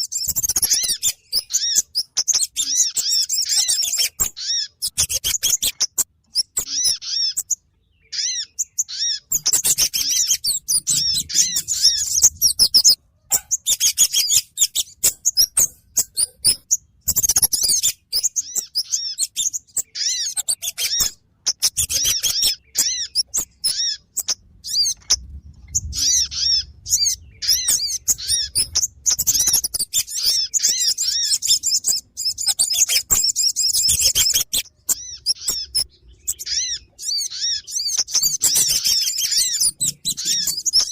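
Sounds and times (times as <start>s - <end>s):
high-pitched bird chirping: 0.0s - 40.9s.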